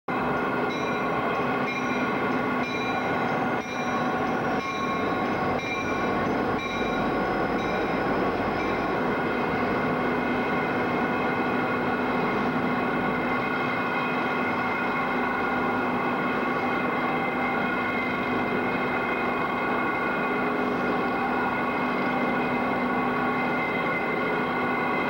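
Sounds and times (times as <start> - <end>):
diesel locomotive engine drone: 0.1 - 25.0.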